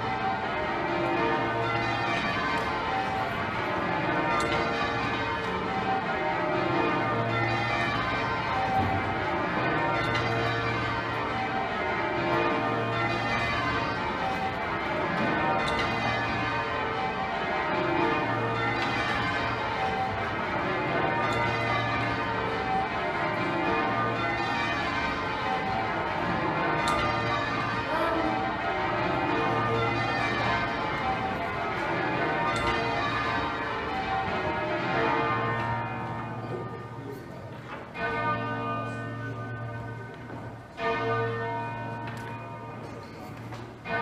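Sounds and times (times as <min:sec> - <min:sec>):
church bells change ringing: 0:00.0 - 0:44.0
deep hum of tenor bell: 0:00.0 - 0:44.0.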